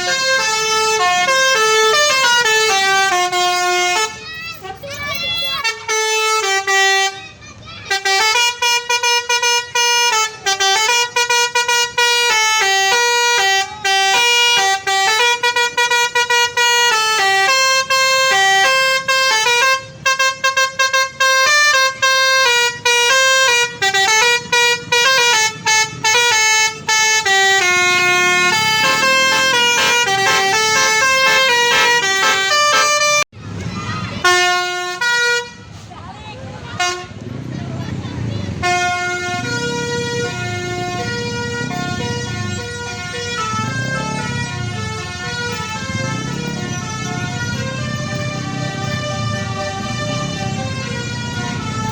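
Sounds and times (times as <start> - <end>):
bus horn playing a fast tune: 0.0 - 33.3, 34.2 - 35.8, 36.8 - 37.3, 38.4 - 51.9.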